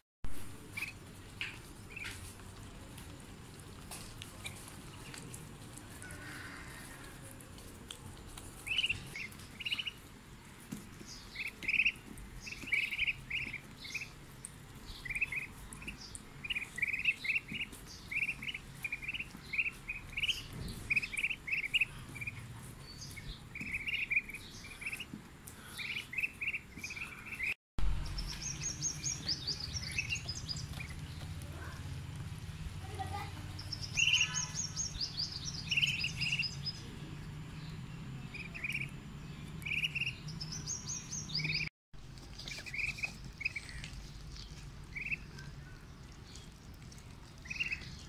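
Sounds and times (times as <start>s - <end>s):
ducklings peeping: 0.5s - 31.5s, 32.9s - 48.0s.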